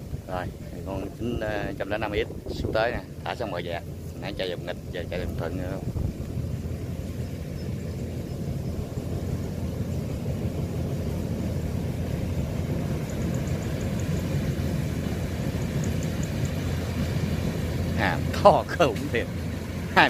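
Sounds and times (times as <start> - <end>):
combine harvester engine rumbling: 0.0 - 20.0.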